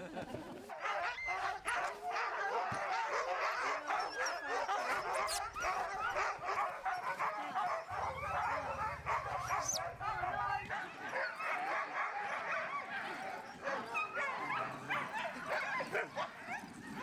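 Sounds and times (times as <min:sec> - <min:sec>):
huskies barking yipping and whining: 0:00.6 - 0:17.0.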